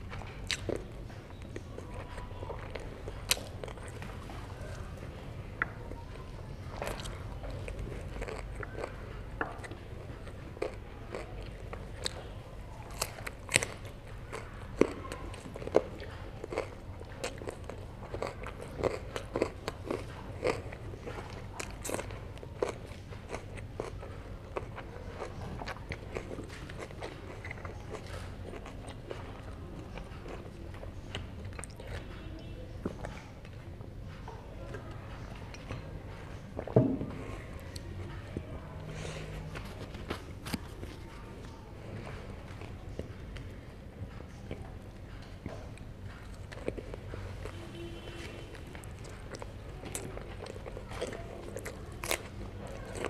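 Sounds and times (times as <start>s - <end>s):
biting and chewing food: 0.0s - 53.0s.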